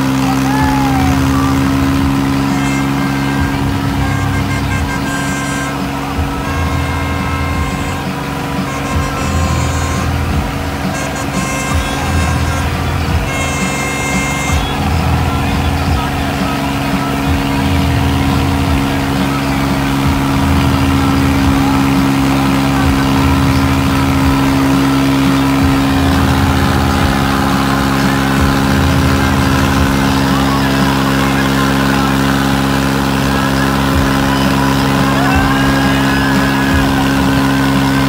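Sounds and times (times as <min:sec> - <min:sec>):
tractor diesel engines running: 0:00.0 - 0:38.0.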